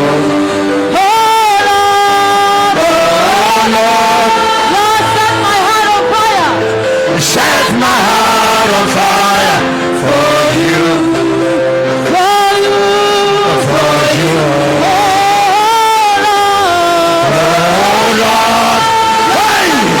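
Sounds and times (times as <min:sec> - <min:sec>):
person singing long held notes: 0:00.0 - 0:20.0
worship music: 0:00.0 - 0:20.0.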